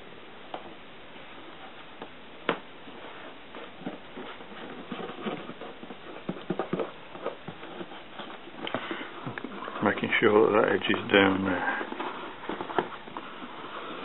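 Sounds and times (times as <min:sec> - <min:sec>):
tape crackling and rustling: 0:00.5 - 0:14.0.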